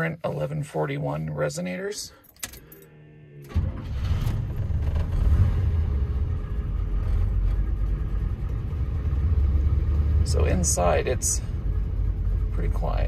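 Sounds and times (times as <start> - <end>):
engine running from inside cab: 2.4 - 13.0.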